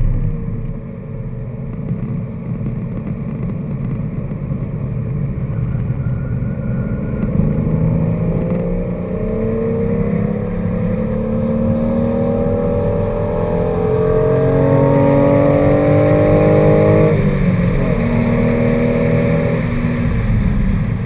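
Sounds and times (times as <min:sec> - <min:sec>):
car engine accelerating: 0:00.0 - 0:21.0
road and wind noise: 0:00.0 - 0:21.0.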